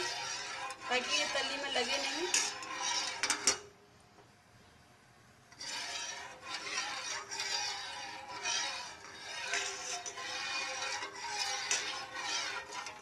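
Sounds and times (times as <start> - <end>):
metal spoon scraping a pan: 0.0 - 3.7, 5.5 - 13.0.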